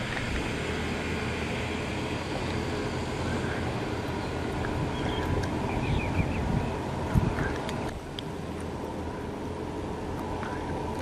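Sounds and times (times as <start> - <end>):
car driving along street: 0.0 - 11.0.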